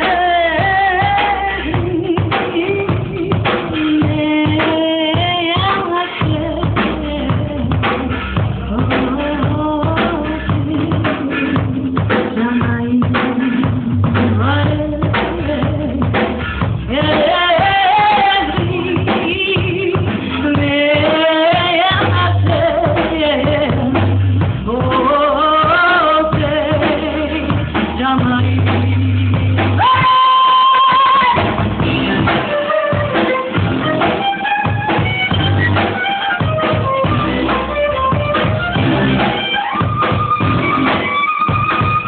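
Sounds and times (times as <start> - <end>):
bass notes: 0.0 - 42.0
drum kit: 0.0 - 42.0
person singing: 0.0 - 42.0.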